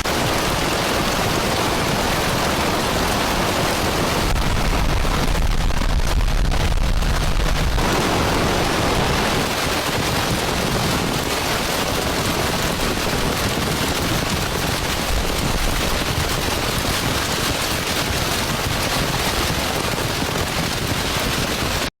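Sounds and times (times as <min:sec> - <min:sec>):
heavy downpour: 0:00.0 - 0:21.9.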